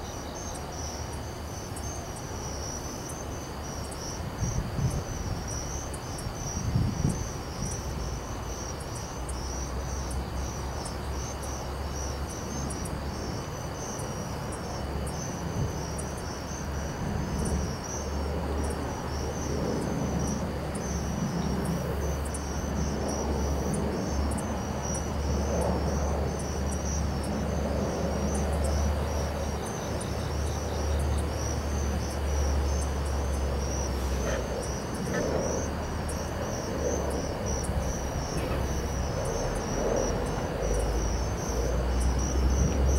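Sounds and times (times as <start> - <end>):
night insects chirping: 0.0 - 42.9.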